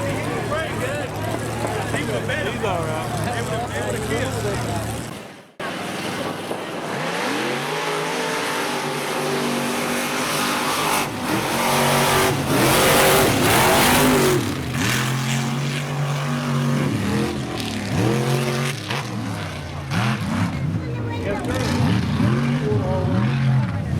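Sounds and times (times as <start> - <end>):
truck engine revving: 0.0 - 23.9.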